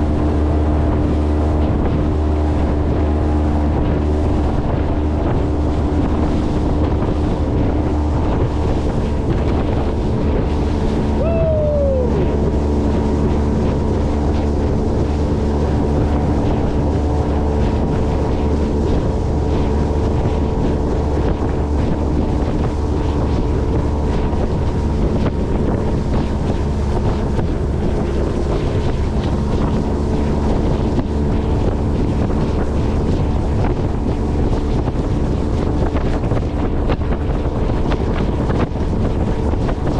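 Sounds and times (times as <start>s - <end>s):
motorboat engine running: 0.0s - 39.9s
water rushing past hull: 0.0s - 39.9s
wind buffeting microphone: 0.0s - 39.9s.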